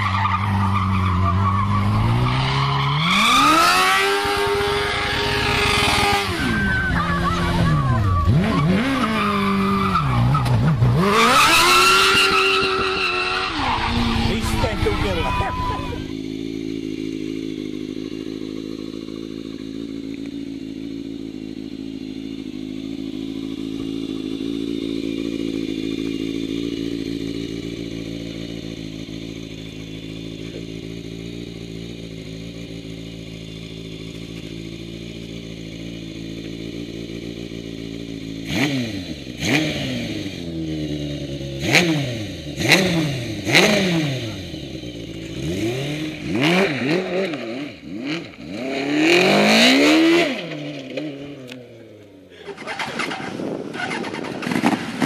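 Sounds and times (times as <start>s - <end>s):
go-kart engine idling and revving: 0.0s - 55.0s.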